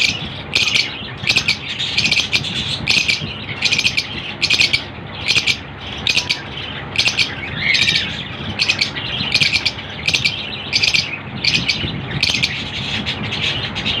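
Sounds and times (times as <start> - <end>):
parrots chirping squawks: 0.0 - 14.0.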